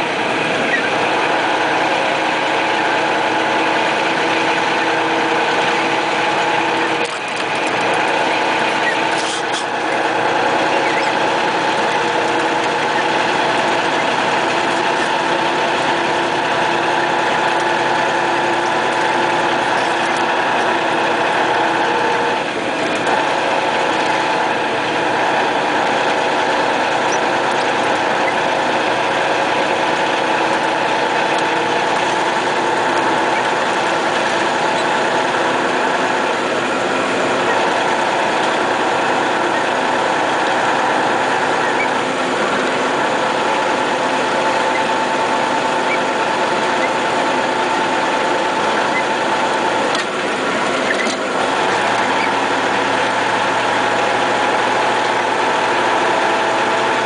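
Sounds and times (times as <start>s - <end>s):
diesel truck engine droning: 0.0s - 57.0s
mechanical whine: 0.0s - 57.0s
road noise: 0.0s - 57.0s.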